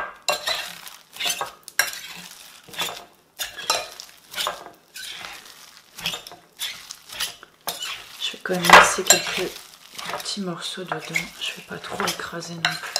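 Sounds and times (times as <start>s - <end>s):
wet squash of mashing: 0.0s - 12.9s
metal masher scraping bowl: 0.3s - 12.9s.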